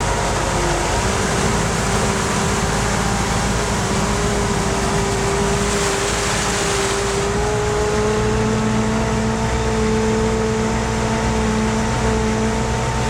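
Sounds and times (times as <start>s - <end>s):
constant whine: 0.0s - 13.0s
diesel engine running: 0.0s - 13.0s
road noise: 0.0s - 13.0s.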